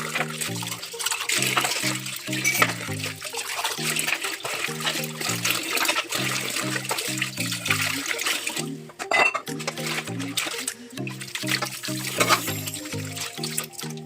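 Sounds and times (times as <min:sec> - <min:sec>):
background music: 0:00.0 - 0:14.0
tap water splashing in sink: 0:00.0 - 0:14.0.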